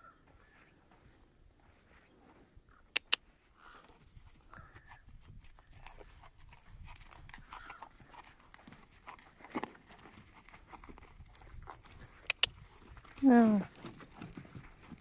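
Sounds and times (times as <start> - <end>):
hooves walking on sand: 0.3 - 2.6, 3.3 - 15.0.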